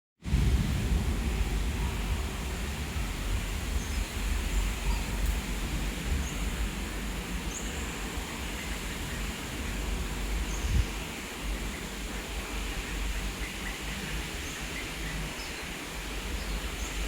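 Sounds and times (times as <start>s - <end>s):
steady hiss: 0.2s - 17.0s
wind rumble on microphone: 0.2s - 17.0s.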